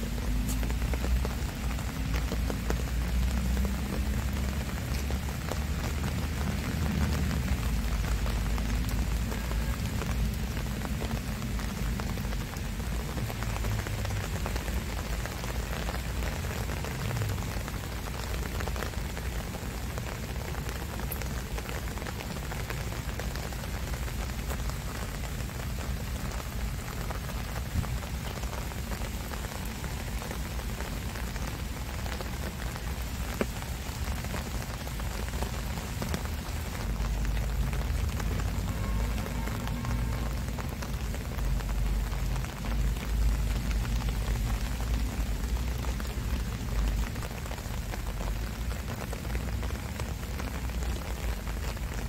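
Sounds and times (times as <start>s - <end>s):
rain falling on foliage: 0.0s - 52.0s.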